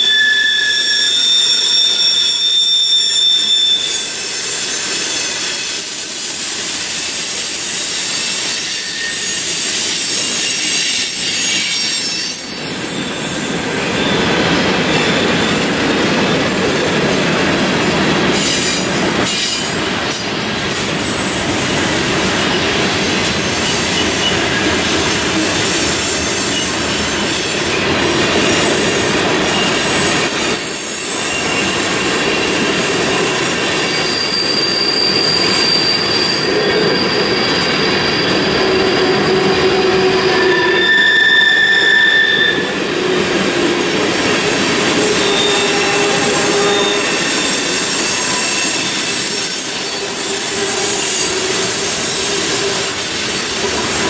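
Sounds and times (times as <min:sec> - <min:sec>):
wheel squeal: 0:00.0 - 0:17.0, 0:23.6 - 0:28.9, 0:29.5 - 0:42.8, 0:44.9 - 0:54.0
train wheels rumbling: 0:01.2 - 0:54.0.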